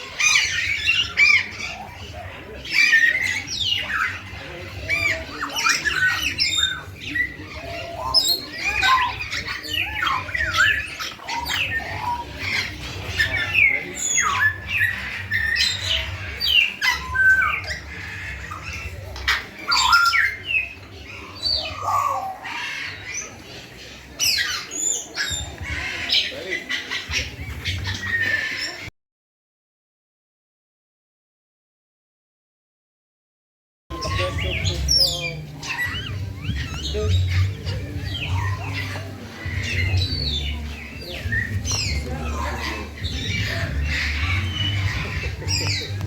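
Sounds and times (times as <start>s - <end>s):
many birds chirping: 0.0s - 28.9s, 33.9s - 46.0s.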